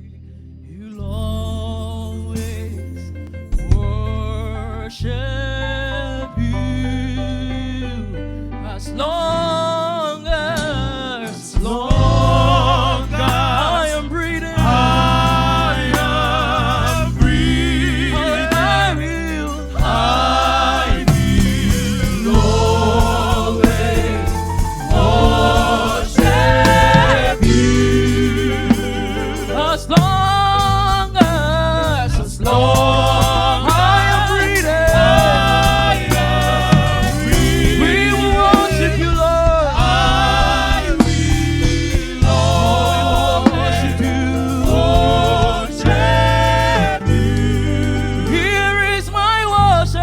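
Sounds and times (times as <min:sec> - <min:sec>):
band accompaniment with bass: 0:00.0 - 0:50.0
gospel choir singing: 0:09.0 - 0:50.0.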